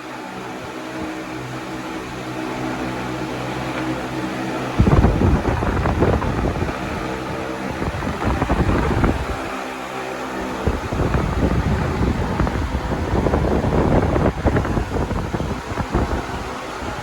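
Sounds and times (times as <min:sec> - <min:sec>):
airflow buffeting microphone: 0:00.0 - 0:17.0
fan motor hum: 0:00.0 - 0:17.0.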